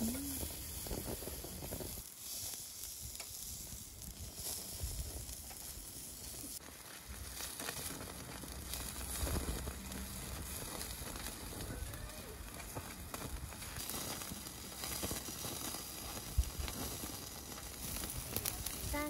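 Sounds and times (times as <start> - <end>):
beef sizzling on grill: 0.0 - 19.0.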